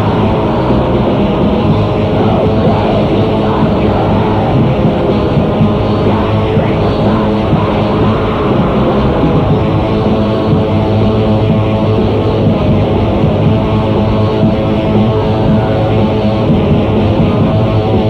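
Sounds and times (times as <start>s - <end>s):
distorted black metal band: 0.0s - 18.0s.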